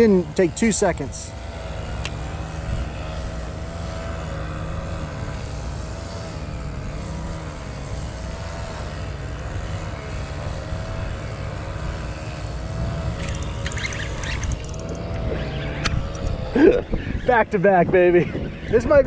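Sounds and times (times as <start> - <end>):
small gasoline engines droning: 0.0 - 19.0.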